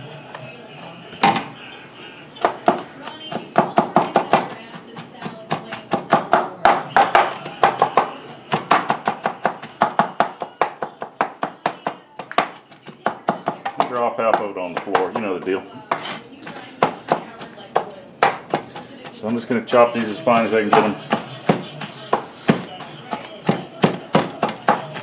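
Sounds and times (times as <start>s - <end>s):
knife chopping on cutting board: 2.4s - 25.0s.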